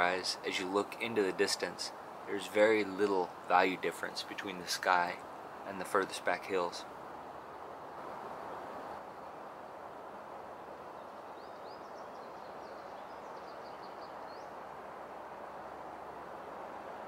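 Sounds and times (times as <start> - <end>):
songbird chirps and trills: 0.0 - 17.0
steady outdoor hiss: 0.0 - 17.0.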